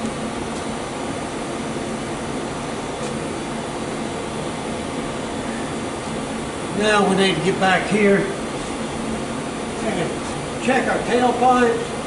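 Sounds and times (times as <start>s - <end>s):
fan rushing: 0.0s - 12.0s.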